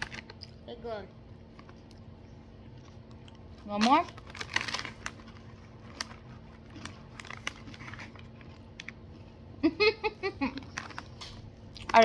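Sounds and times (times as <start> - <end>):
chewing crunchy crackers: 0.0 - 0.7, 1.4 - 9.1, 10.5 - 12.0.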